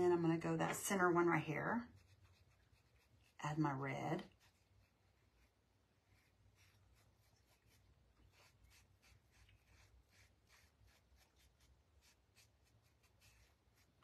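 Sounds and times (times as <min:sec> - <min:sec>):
scratchy painting tool strokes: 0:01.0 - 0:14.0.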